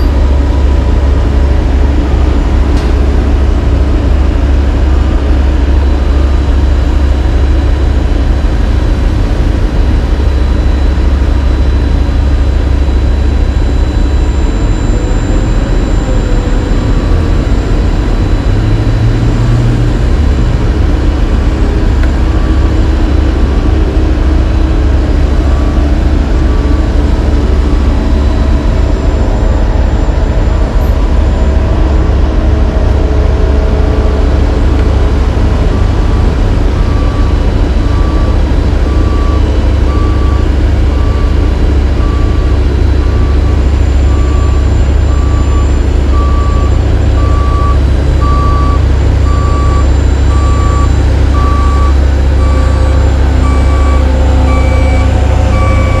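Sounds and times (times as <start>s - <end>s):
heavy diesel engines rumbling: 0.0s - 56.0s
reversing alarm beeping: 0.0s - 56.0s.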